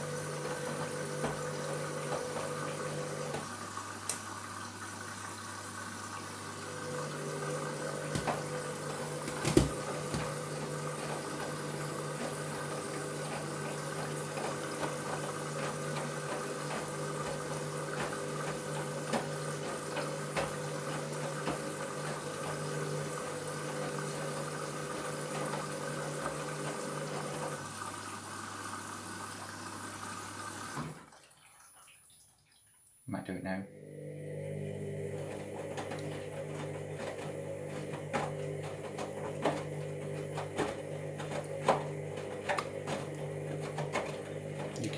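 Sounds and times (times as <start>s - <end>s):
washing machine motor humming: 0.0s - 31.2s, 33.6s - 44.9s.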